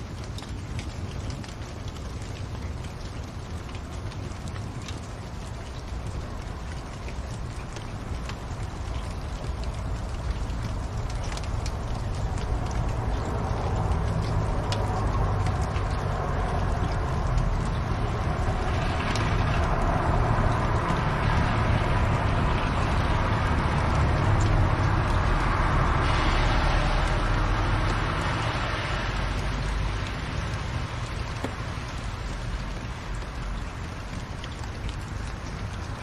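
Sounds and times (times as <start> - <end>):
faint fire crackles: 0.0 - 36.0
fire rumbling: 0.0 - 36.0.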